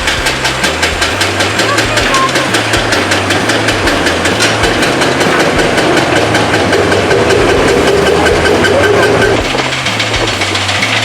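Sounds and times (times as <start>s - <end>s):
diesel engine clattering: 0.0s - 11.0s.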